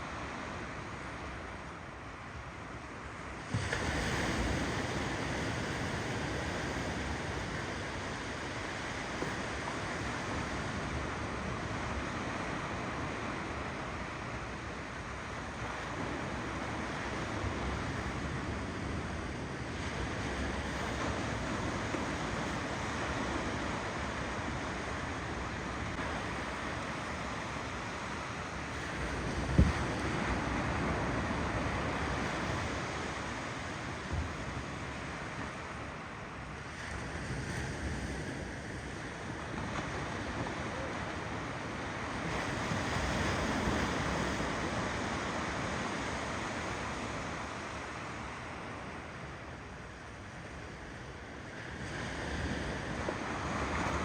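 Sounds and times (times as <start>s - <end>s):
ocean waves breaking: 3.5s - 49.3s.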